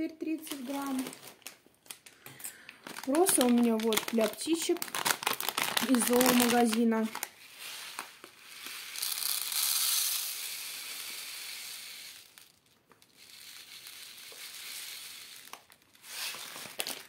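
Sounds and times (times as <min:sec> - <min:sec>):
seeds pouring into plastic tray: 0:03.0 - 0:17.0.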